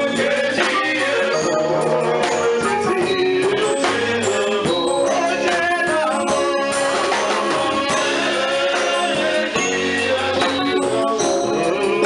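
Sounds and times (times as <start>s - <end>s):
drums: 0.0s - 12.0s
hand percussion: 0.0s - 12.0s
men singing into microphones: 0.0s - 12.0s.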